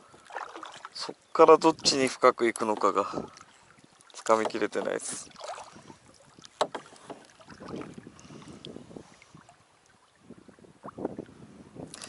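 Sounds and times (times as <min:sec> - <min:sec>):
paddle splashing water: 0:00.0 - 0:12.0.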